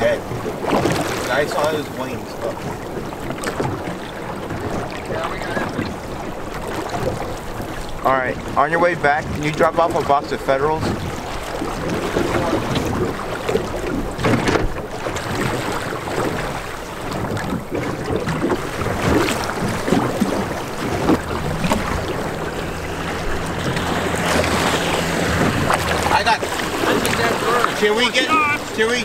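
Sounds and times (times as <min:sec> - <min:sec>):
boat motor humming: 0:00.0 - 0:29.0
waves slapping boat hull: 0:00.0 - 0:29.0
wind buffeting microphone: 0:00.0 - 0:29.0.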